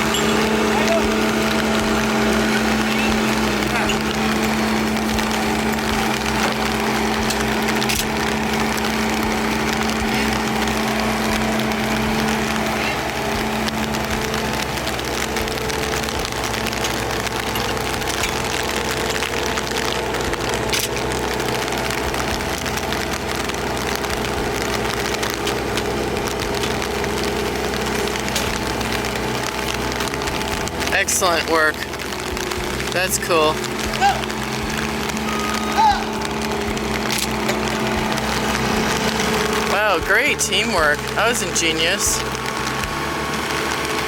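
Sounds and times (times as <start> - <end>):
heavy equipment engine humming: 0.0 - 44.0
rough noisy background: 0.0 - 44.0.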